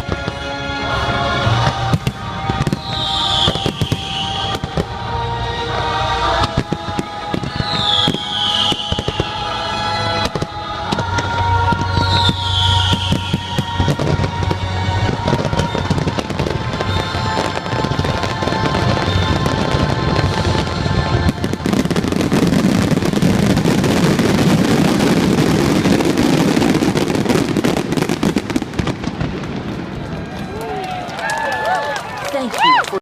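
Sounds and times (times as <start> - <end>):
loud show music: 0.0 - 28.6
fireworks bursting and crackling: 0.0 - 32.8.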